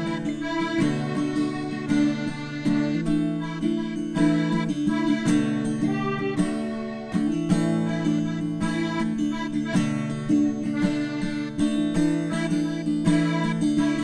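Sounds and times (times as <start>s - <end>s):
plucked string music: 0.0s - 14.0s.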